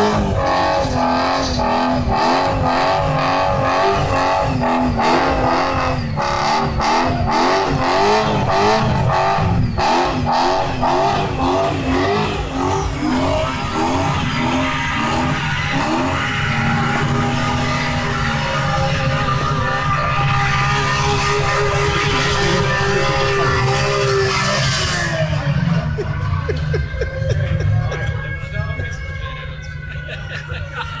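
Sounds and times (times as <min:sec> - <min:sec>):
car engines revving hard: 0:00.0 - 0:31.0.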